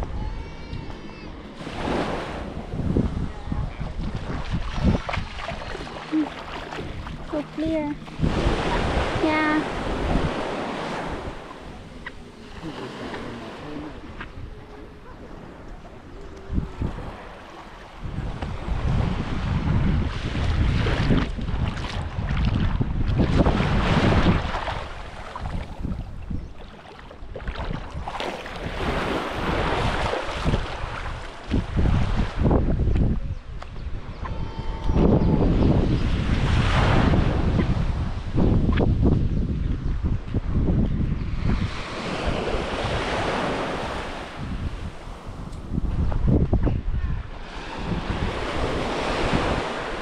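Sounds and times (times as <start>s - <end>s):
wind buffeting microphone: 0.0s - 50.0s
sea waves breaking on beach: 1.0s - 32.8s, 35.0s - 39.2s, 40.0s - 50.0s.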